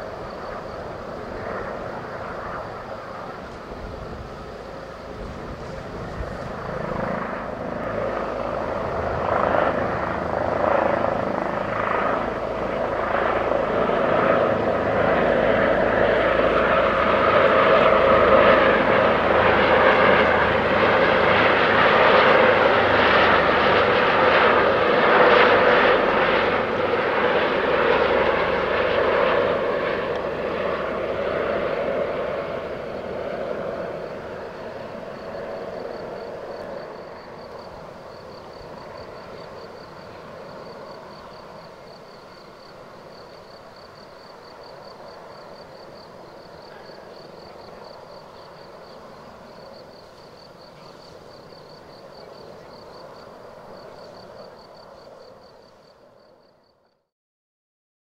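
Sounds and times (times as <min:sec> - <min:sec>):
helicopter rotor and turbine: 0:00.0 - 0:57.1.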